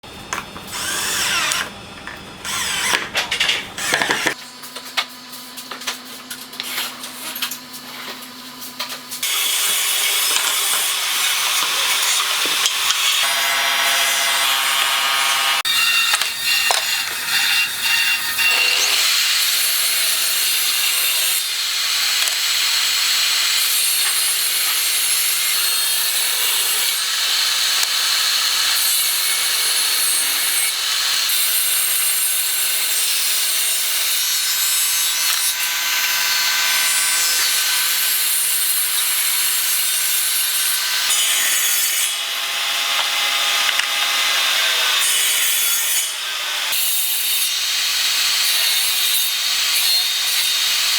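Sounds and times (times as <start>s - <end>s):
saw rasping through wood: 0.6s - 4.4s, 9.2s - 50.9s.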